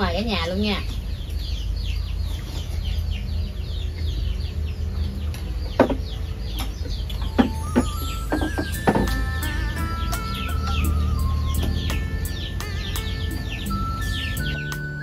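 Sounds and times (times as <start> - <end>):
chicks peeping: 0.2 - 15.0.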